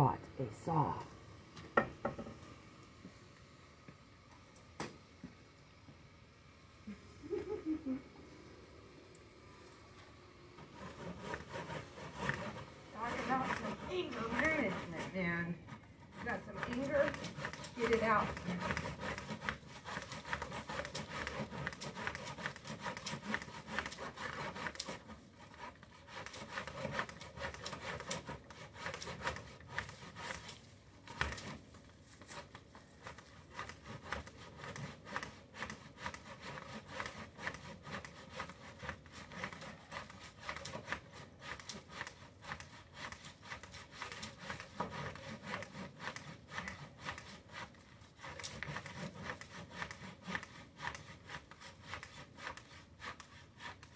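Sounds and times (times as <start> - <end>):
saw cutting through stem: 10.6 - 53.9.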